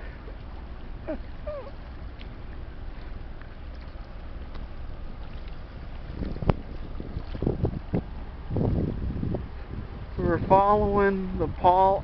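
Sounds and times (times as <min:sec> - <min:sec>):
ship engine rumble: 0:00.0 - 0:12.0.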